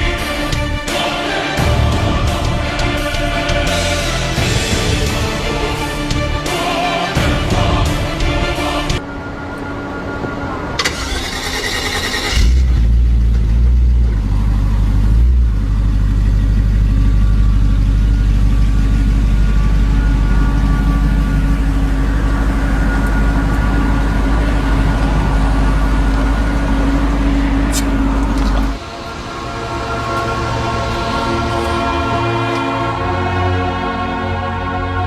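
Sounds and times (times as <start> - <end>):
van engine deep rumble: 0.0 - 35.0.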